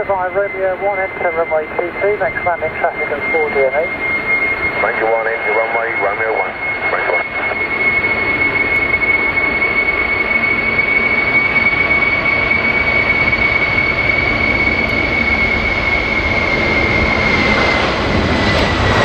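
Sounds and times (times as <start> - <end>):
jet engines high-pitched whine: 0.0 - 19.0.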